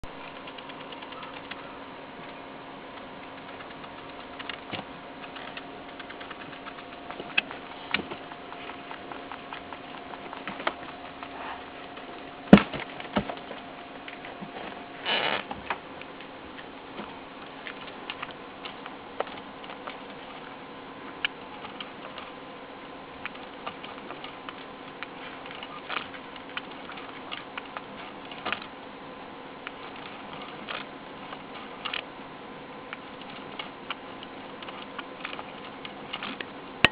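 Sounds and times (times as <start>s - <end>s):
guinea pig clicking: 0.1s - 13.2s, 16.0s - 28.7s, 29.6s - 32.1s, 32.9s - 36.9s.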